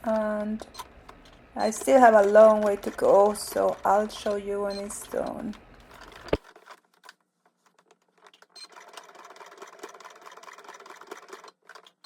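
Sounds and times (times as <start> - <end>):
sewing machine stitching fast: 1.6 - 7.1, 7.7 - 12.0.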